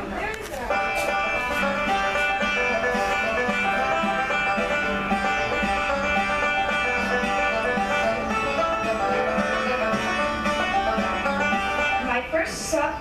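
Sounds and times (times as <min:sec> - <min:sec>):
plucked string music: 0:00.7 - 0:12.3.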